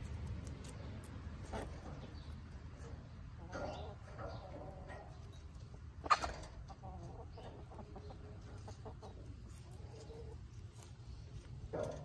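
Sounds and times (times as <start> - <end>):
hens clucking: 1.4 - 12.0.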